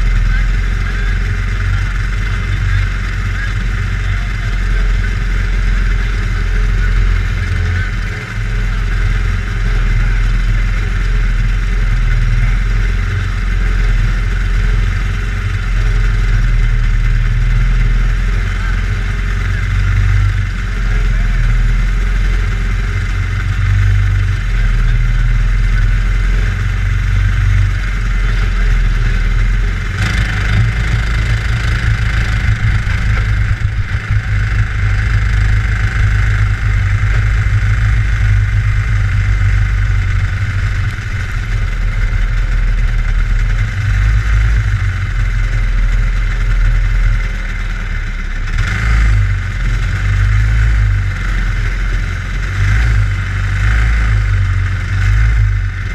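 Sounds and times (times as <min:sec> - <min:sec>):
small racer engine running: 0:00.0 - 0:55.9.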